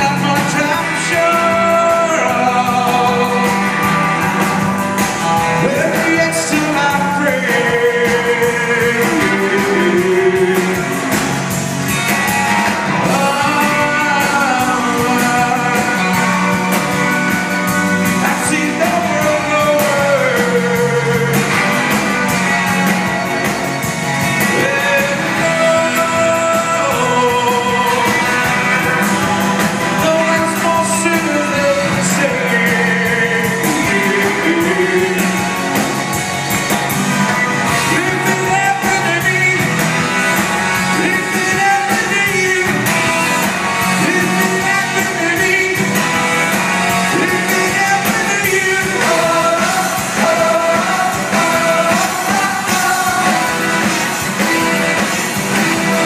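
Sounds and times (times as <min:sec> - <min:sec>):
lead vocal singing: 0:00.0 - 0:56.0
live band playing: 0:00.0 - 0:56.0.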